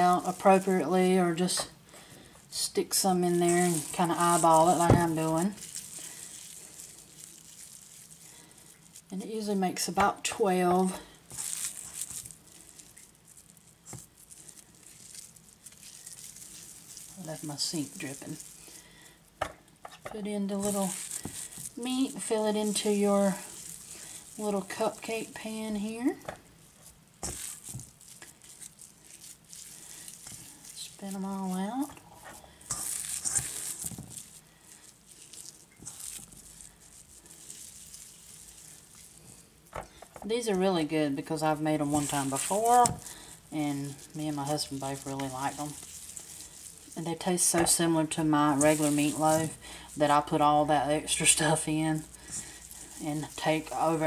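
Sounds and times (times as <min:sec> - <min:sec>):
hands scooping meat mixture: 0:00.0 - 0:54.0.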